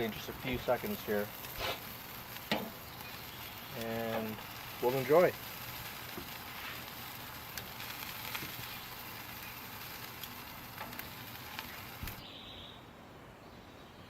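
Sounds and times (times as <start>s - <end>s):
meat sizzling on a grill: 0.0s - 12.3s
pops and crackles: 0.1s - 12.2s.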